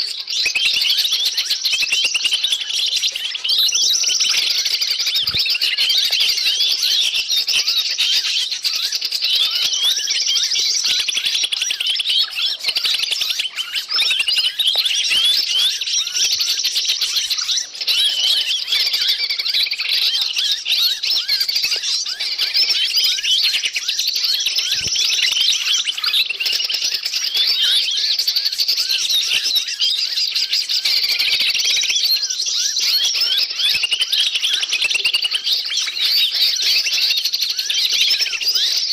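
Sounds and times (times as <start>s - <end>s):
chorus of small birds chirping: 0.0s - 38.9s.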